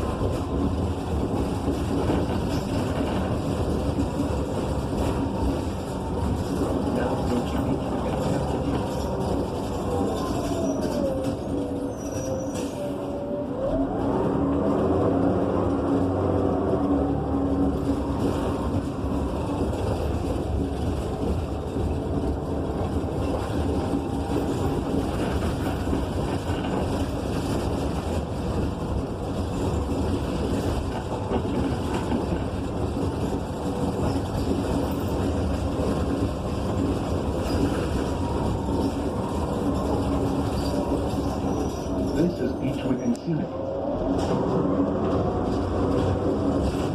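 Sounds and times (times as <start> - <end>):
bus engine running: 0.0 - 46.9
road noise: 0.0 - 46.9.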